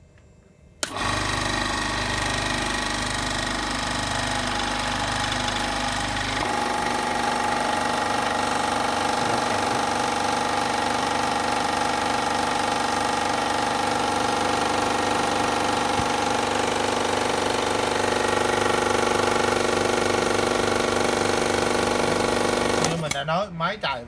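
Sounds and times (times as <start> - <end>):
high-pitched compressor whine: 0.0 - 24.0
air compressor running: 0.8 - 23.2.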